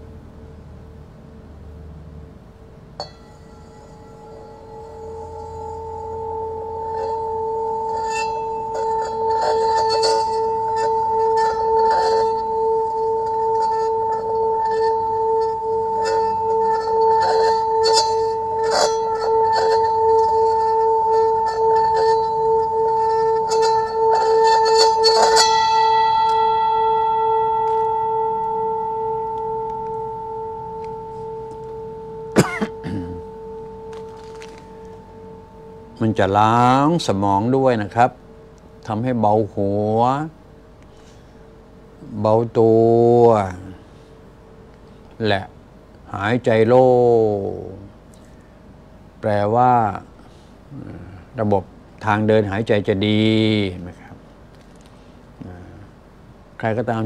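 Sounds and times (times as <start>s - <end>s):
singing bowl humming: 0.0s - 57.0s.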